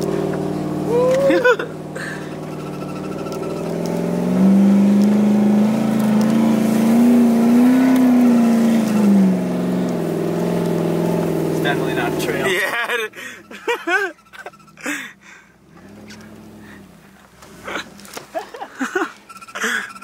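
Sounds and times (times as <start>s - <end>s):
vehicle engine revving: 0.0s - 18.3s.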